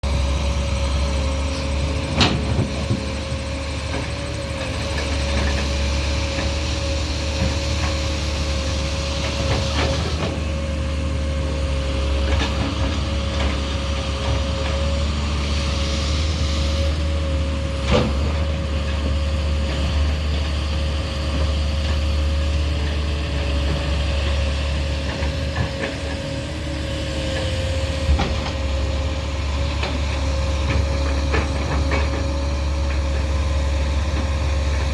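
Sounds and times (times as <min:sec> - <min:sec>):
diesel engine whining: 0:00.0 - 0:34.9.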